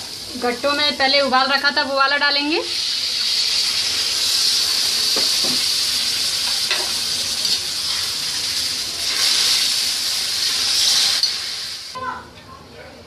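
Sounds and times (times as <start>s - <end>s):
oil sizzling and hissing: 0.0s - 12.0s.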